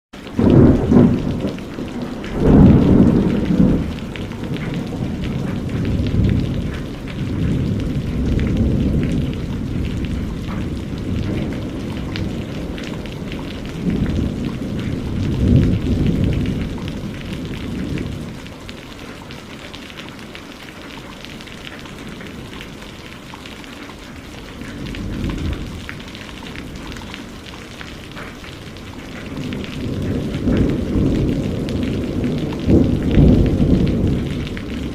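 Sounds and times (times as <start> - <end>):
steady rain: 0.1 - 34.9
rolling thunder: 0.3 - 18.6, 24.2 - 34.9.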